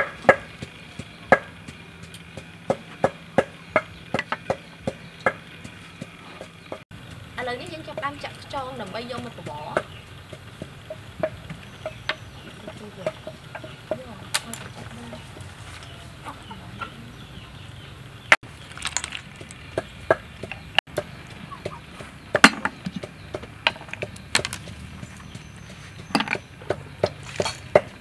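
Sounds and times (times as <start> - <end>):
snail shells and skewers clicking: 0.0 - 16.0, 18.2 - 28.0.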